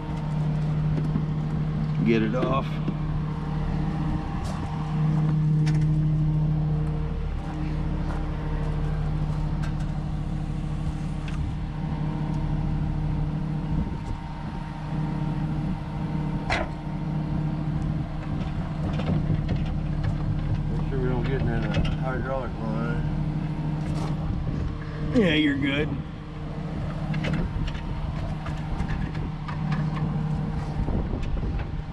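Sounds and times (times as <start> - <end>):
engine drone: 0.0 - 31.9.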